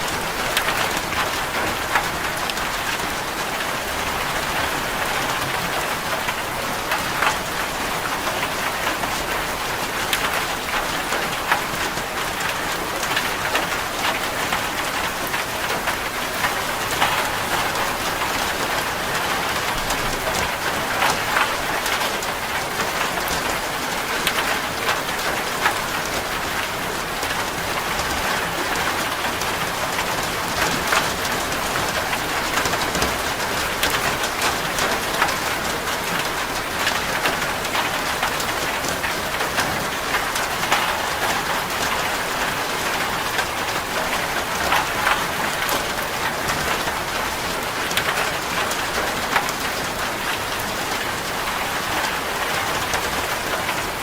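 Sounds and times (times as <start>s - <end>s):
rain drumming on a metal roof: 0.0s - 54.0s.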